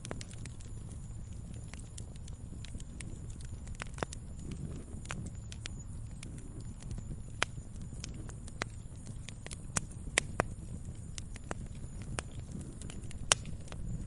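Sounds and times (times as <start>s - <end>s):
low rumble of flame: 0.0s - 14.0s
wood crackling and popping: 0.0s - 14.0s.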